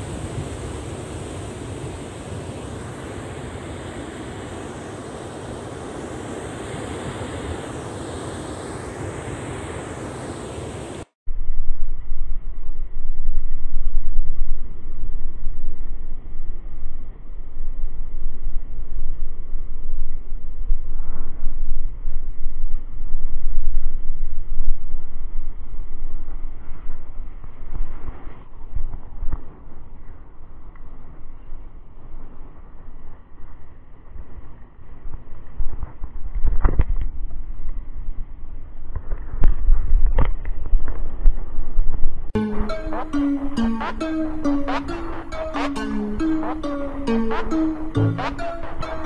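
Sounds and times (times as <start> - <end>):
wind: 0.0 - 49.0.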